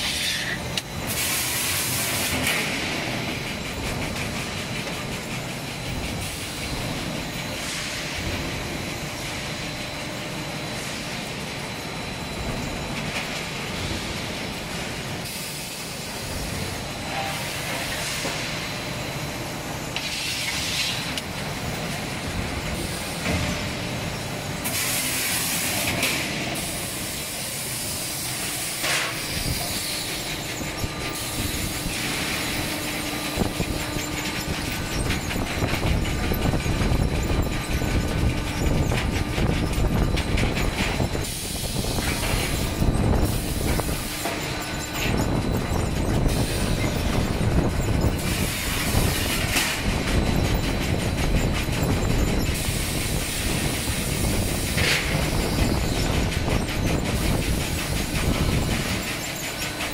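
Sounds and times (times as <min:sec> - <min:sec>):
rumble of rollers and conveyors: 0:00.0 - 0:59.9.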